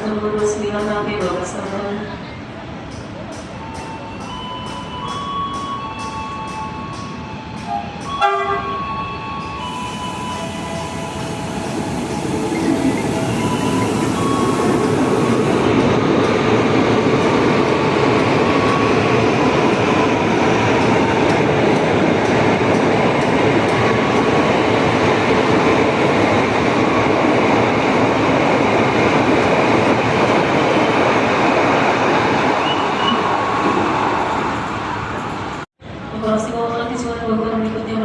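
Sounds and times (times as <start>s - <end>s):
train wheels rumbling on rails: 0.0s - 35.7s.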